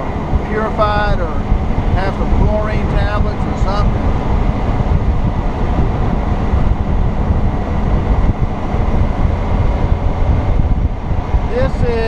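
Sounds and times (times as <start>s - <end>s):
motorcycle engine: 0.0s - 11.6s
road noise: 0.0s - 12.0s
wind buffeting microphone: 0.0s - 12.0s.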